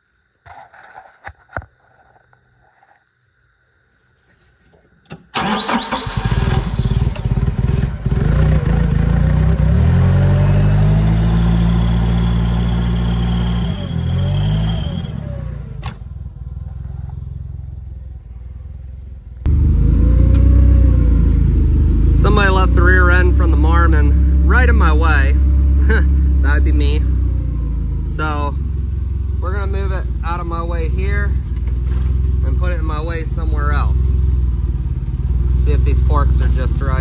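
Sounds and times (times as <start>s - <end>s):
forklift engine starting and revving: 5.1s - 37.0s.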